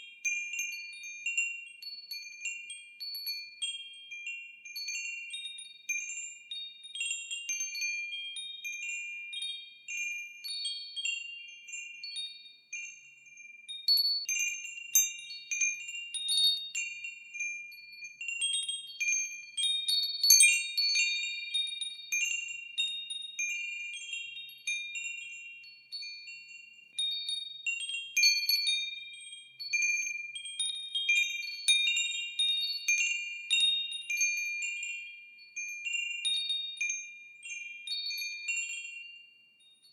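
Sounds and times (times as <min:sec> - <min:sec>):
wind chimes ringing: 0:00.0 - 0:39.9.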